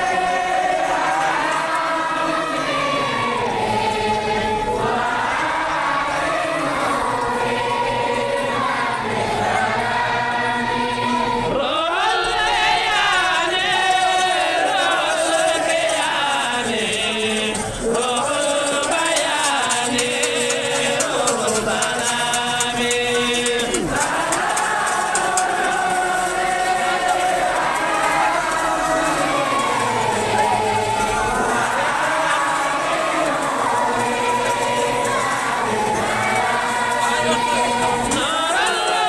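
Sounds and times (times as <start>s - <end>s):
voices chanting together: 0.0s - 39.0s.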